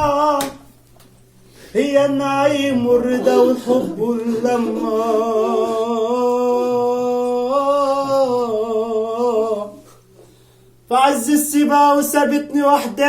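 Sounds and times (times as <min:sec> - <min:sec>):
man singing a long note: 0:00.0 - 0:00.6, 0:01.7 - 0:09.8, 0:10.9 - 0:13.0.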